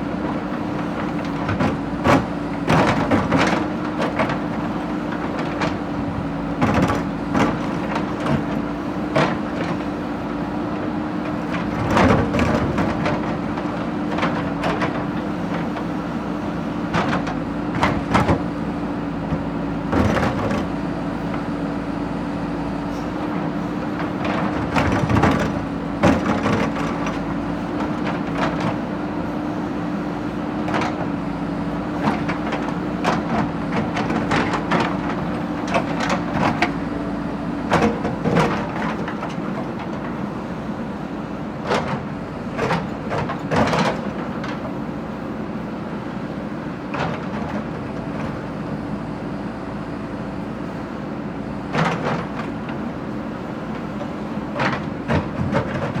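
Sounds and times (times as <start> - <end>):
backhoe engine humming: 0.0 - 56.0.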